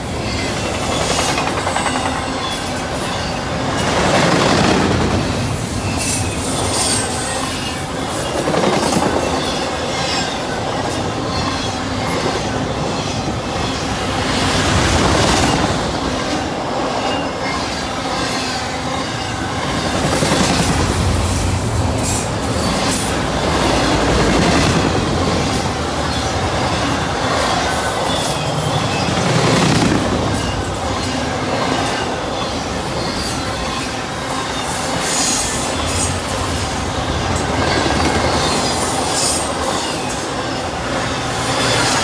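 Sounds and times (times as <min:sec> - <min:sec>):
high wheel squeal: 0:00.0 - 0:04.1, 0:05.2 - 0:42.0
freight train rumble and clatter: 0:00.0 - 0:42.0.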